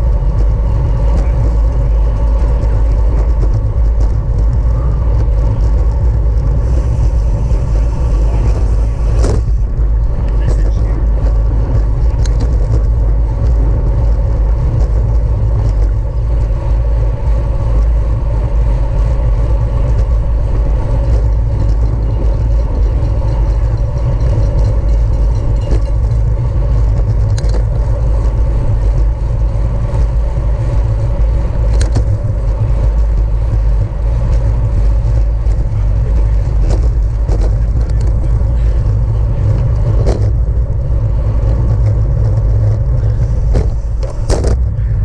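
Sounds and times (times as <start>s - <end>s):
wind rush on microphone: 0.0s - 45.0s.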